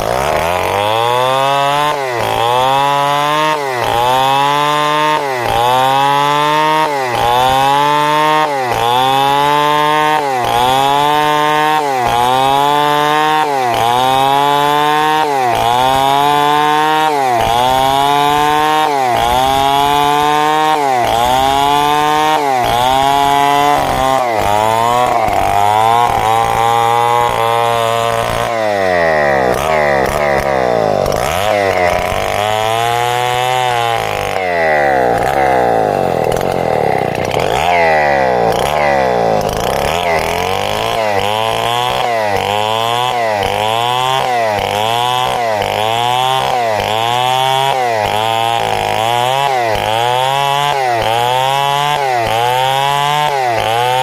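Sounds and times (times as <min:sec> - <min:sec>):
chainsaw ripping a log: 0:00.0 - 0:54.0.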